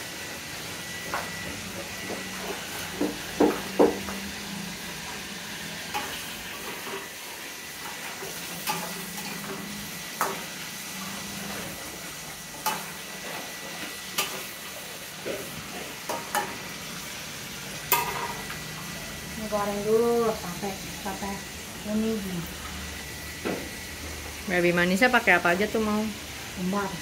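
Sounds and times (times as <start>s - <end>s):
meat sizzling in a wok: 0.0s - 27.0s.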